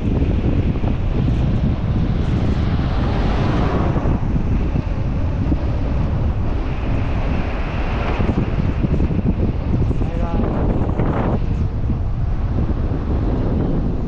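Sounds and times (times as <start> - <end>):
vehicle road noise: 0.0 - 14.0
wind buffeting microphone: 0.0 - 14.0.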